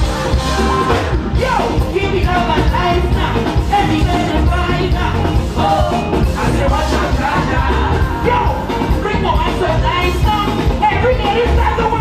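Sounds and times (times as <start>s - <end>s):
heavy bass beat: 0.0s - 12.0s
man singing: 0.6s - 12.0s.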